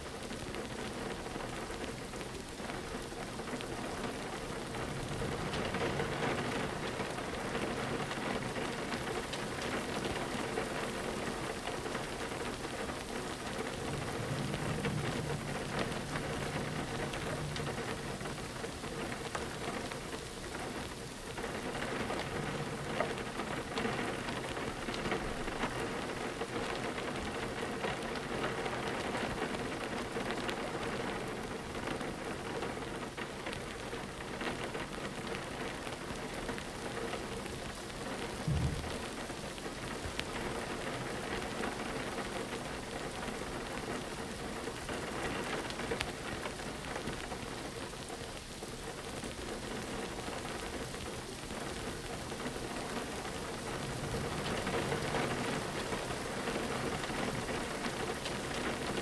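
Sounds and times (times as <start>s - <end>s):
rain on a window pane: 0.0s - 59.0s.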